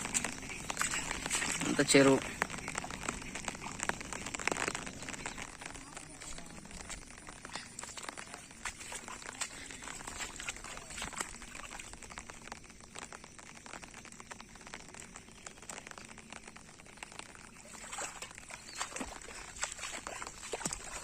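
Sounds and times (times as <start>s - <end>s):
light rain patter: 0.0s - 21.0s
water trickling and sloshing: 0.0s - 21.0s.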